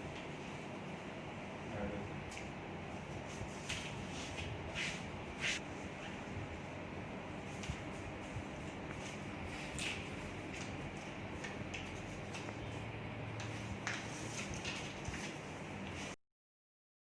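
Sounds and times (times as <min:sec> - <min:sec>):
steady room hiss: 0:00.0 - 0:16.2.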